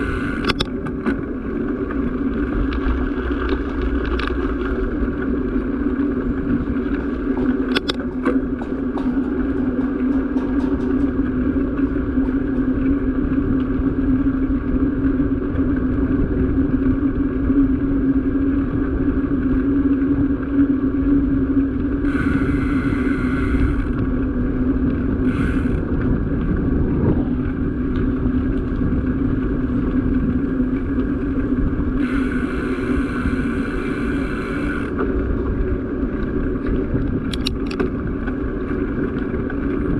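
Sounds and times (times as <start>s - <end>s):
road and wind noise: 0.0s - 39.9s
small vehicle engine running: 0.0s - 39.9s.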